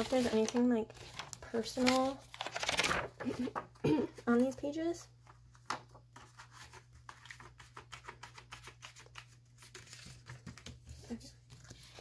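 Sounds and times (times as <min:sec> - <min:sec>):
paper pages rustling: 0:00.0 - 0:03.8, 0:05.2 - 0:12.0.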